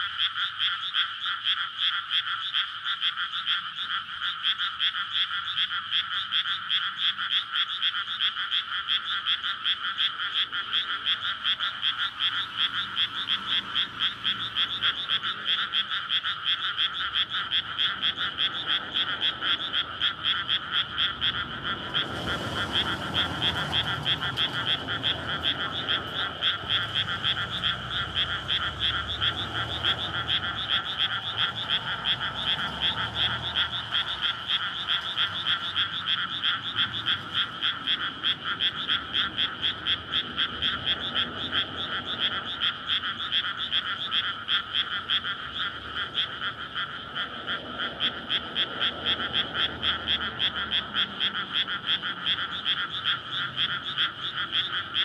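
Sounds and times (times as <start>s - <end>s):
frogs croaking in chorus: 0.0s - 55.0s.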